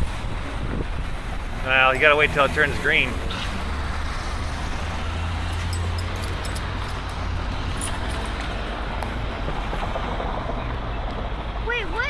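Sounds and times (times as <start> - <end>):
low rumble of car traffic: 0.0 - 12.0.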